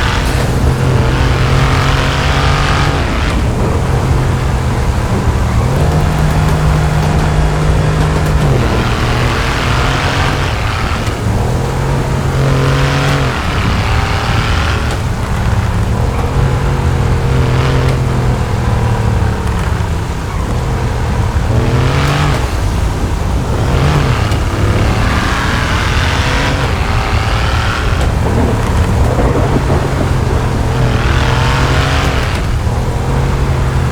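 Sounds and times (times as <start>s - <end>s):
car engine revving: 0.0s - 33.9s
steady low drone: 0.0s - 33.9s.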